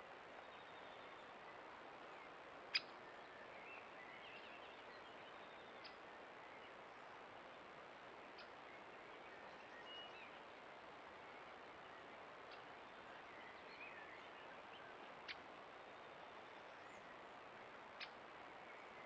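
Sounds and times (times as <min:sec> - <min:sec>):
microphone hiss: 0:00.0 - 0:19.0
faint bird chirps: 0:00.4 - 0:07.0, 0:08.2 - 0:19.0.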